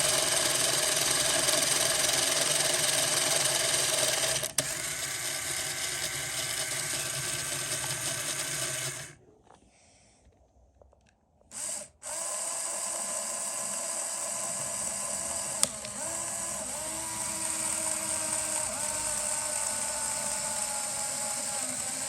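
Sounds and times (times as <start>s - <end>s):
electric motor whining: 0.0s - 9.2s, 11.6s - 22.0s.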